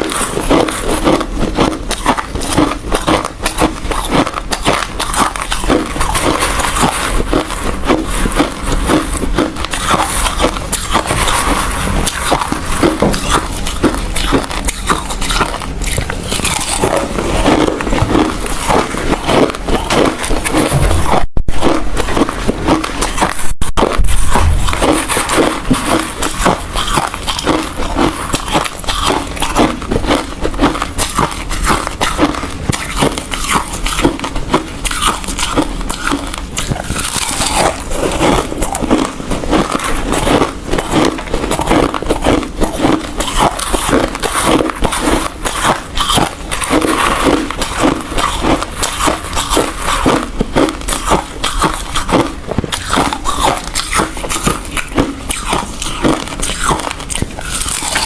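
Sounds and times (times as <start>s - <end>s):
ice being chewed and crunched: 0.0s - 58.0s.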